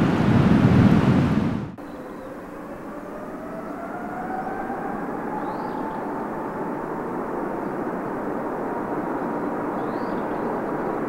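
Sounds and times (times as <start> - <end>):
engine whine rising in pitch: 1.8 - 11.0.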